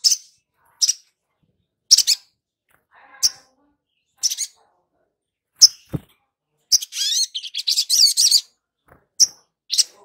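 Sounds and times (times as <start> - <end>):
bird chirping: 0.0 - 10.0
bird twittering song: 0.0 - 10.0.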